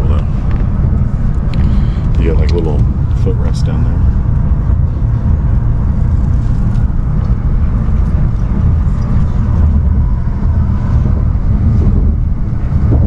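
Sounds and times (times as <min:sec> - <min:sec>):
train low rumble inside carriage: 0:00.0 - 0:13.0.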